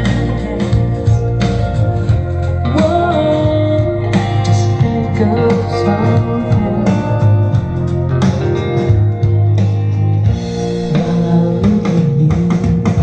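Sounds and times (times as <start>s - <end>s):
guitar music over loudspeaker: 0.0s - 13.0s.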